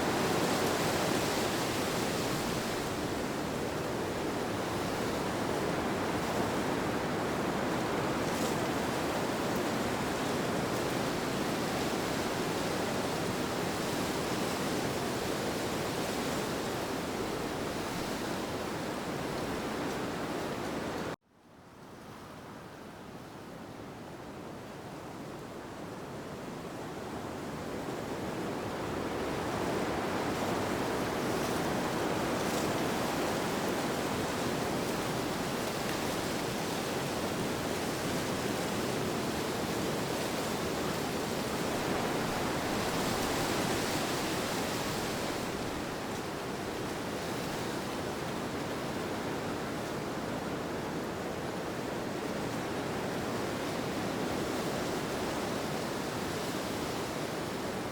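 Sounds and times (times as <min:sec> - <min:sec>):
wind: 0:00.0 - 0:57.9.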